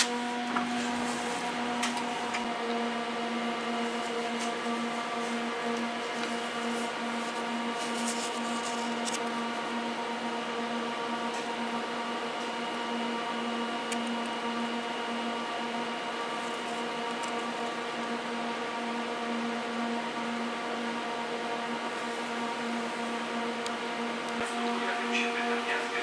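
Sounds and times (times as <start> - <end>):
train carriage machine drone: 0.0 - 26.0.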